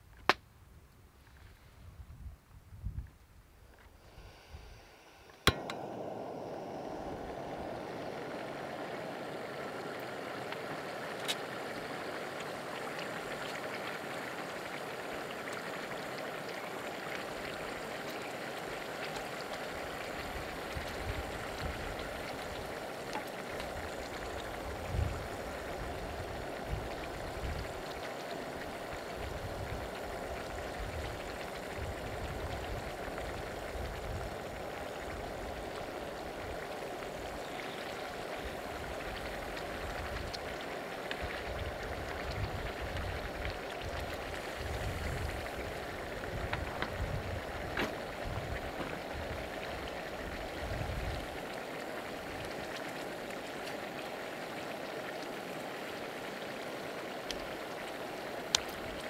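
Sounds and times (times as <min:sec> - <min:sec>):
oil sizzling in a pan: 0:04.1 - 0:51.4.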